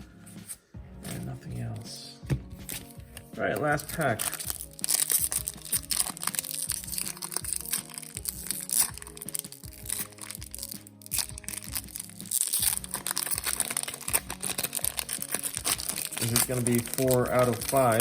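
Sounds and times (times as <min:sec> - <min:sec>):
background music of held notes: 0:00.0 - 0:18.0
foil wrapper crinkling: 0:02.6 - 0:18.0.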